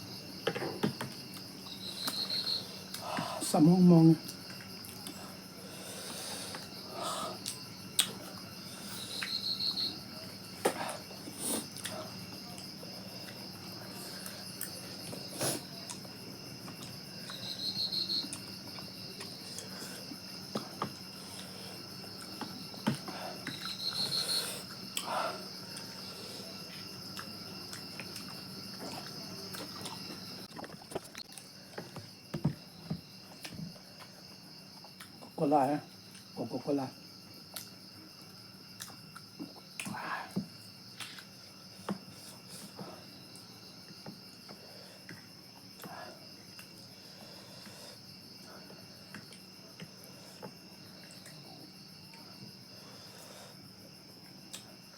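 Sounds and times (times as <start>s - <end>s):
insects chirring: 0.0s - 54.9s
loud insect trill: 0.0s - 54.9s.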